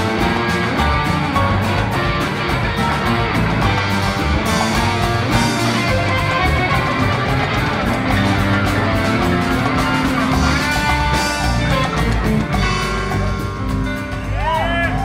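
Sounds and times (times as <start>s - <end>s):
electric guitar playing lead: 0.0s - 15.0s
hand percussion: 0.0s - 15.0s
steady drum beat: 0.0s - 15.0s.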